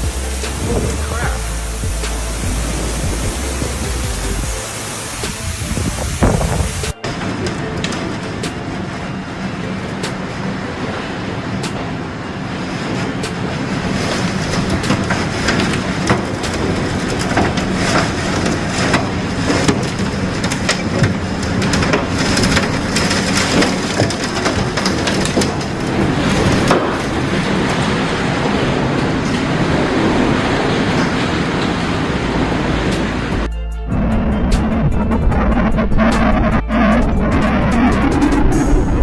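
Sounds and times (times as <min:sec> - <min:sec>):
heavy rain: 0:00.0 - 0:39.0
strong storm wind: 0:00.0 - 0:39.0.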